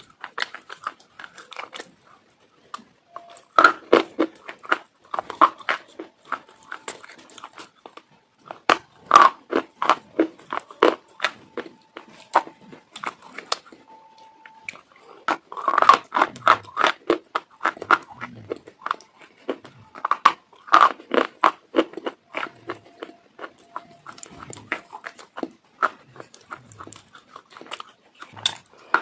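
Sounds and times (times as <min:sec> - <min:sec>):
chewing crunchy food: 0:00.0 - 0:29.0.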